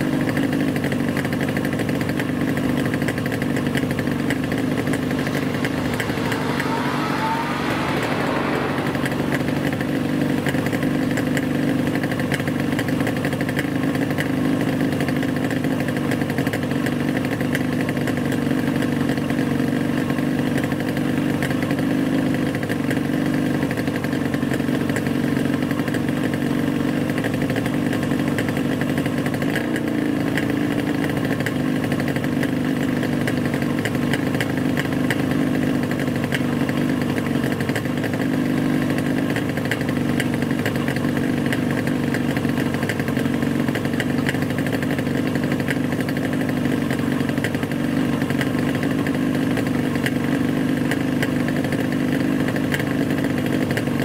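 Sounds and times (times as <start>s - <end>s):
vehicle engine humming: 0.0s - 53.7s.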